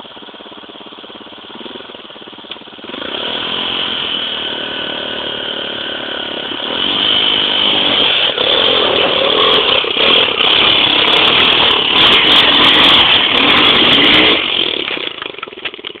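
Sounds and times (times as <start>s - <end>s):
dirt bike engine revving: 1.1s - 15.6s.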